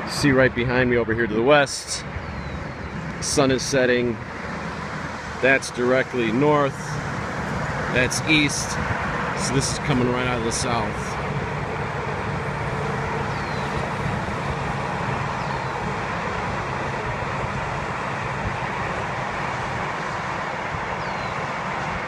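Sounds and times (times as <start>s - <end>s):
highway traffic rushing: 0.0s - 22.0s.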